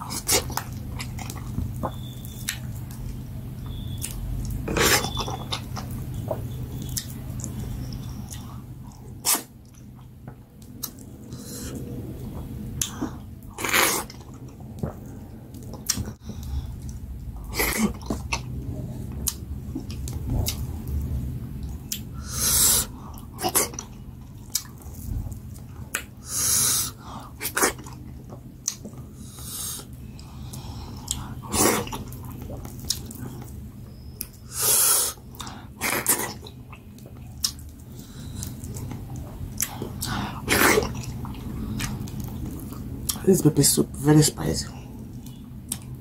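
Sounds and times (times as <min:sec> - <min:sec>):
wet chewing and mouth smacking: 0:00.1 - 0:11.4, 0:12.3 - 0:22.3, 0:23.1 - 0:26.2, 0:27.3 - 0:29.2, 0:29.8 - 0:43.2, 0:45.1 - 0:46.0.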